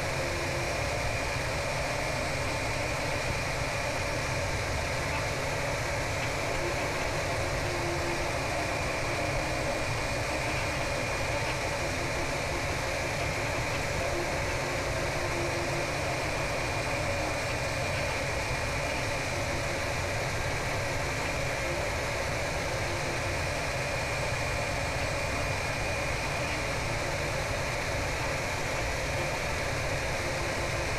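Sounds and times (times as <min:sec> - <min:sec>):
laser engraver whirring hiss: 0:00.0 - 0:30.9.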